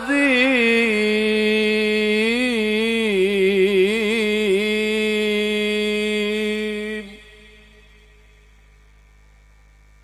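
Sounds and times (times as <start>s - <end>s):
man reciting melodically: 0.0s - 8.4s.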